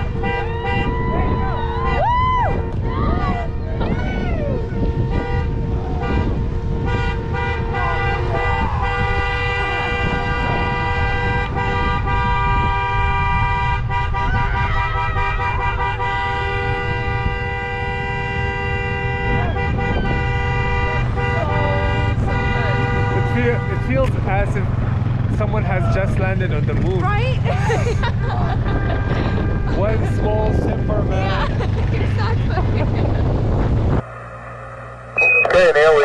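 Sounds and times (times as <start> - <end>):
car horns honking: 0.0 - 36.0
low rumble: 0.0 - 36.0.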